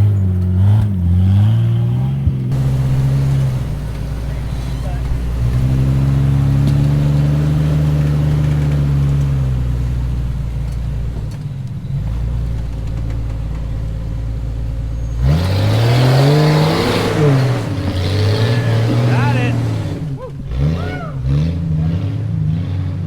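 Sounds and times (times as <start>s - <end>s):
engine droning and revving: 0.0s - 23.0s.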